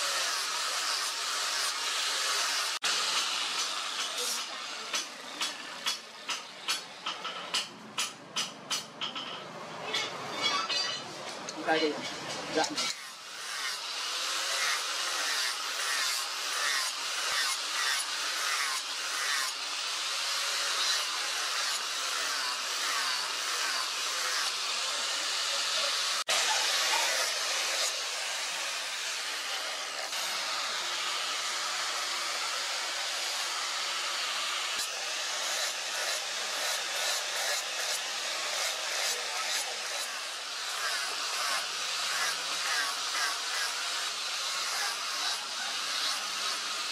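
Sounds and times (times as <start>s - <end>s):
angle grinder grinding metal: 0.0s - 7.7s, 9.9s - 46.9s.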